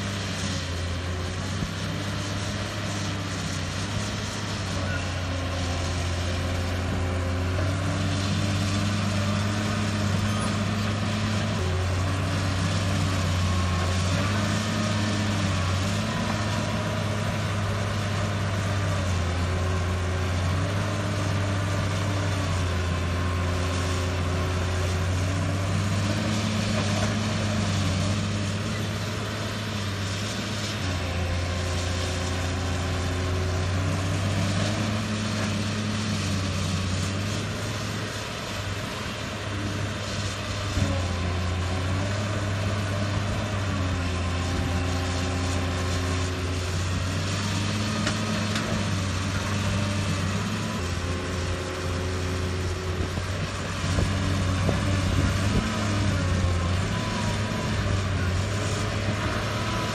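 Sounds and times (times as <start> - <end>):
excavator diesel engine working: 0.0 - 59.9.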